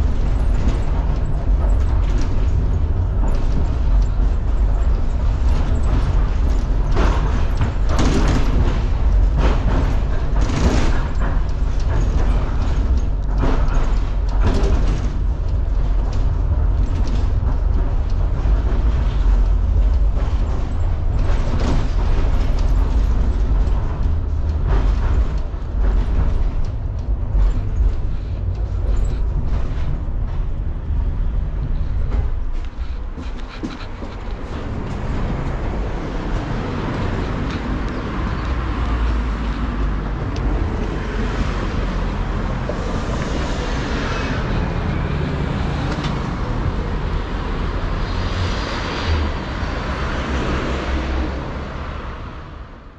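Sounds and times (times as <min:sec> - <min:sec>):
wheels knocking on rails: 0:00.0 - 0:52.2
street traffic: 0:00.0 - 0:52.9
tram rumbling on track: 0:00.0 - 0:52.9.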